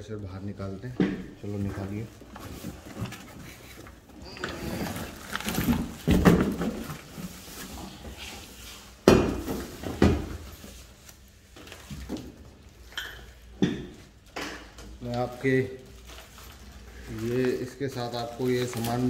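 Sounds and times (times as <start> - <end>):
cardboard and foam rustling: 0.8 - 14.3, 14.9 - 19.0.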